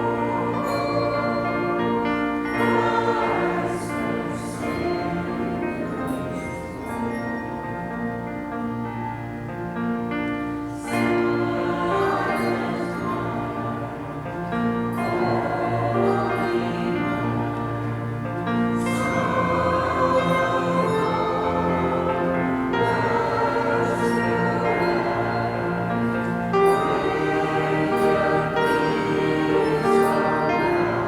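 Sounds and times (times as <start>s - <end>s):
choir singing held chords: 0.0s - 8.9s, 10.5s - 31.0s.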